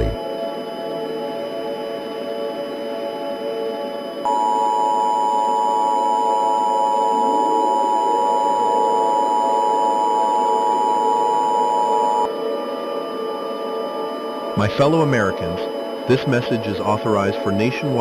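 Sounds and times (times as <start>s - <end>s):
steady background drone: 0.0s - 18.0s.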